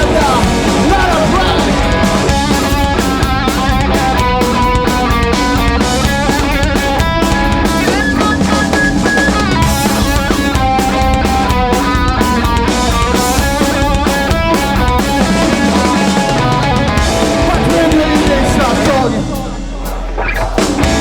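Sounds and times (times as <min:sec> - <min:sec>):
punk rock band playing: 0:00.0 - 0:21.0.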